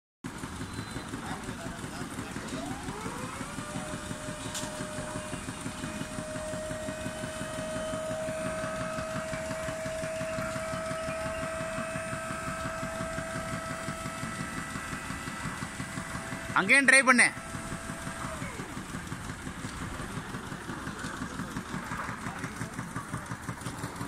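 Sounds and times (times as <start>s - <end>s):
hydraulic pump whining: 0.3s - 24.0s.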